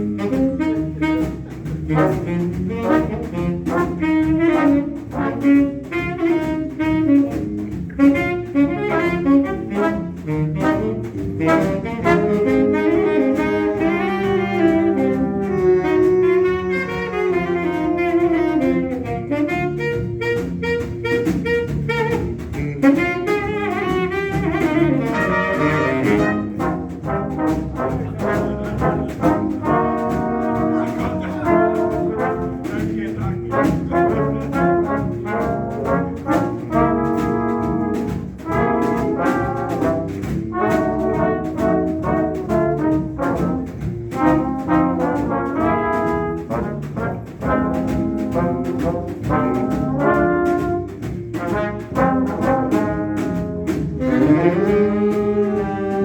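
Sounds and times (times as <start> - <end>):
brass riffs: 0.0 - 56.0
swing band playing: 0.0 - 56.0.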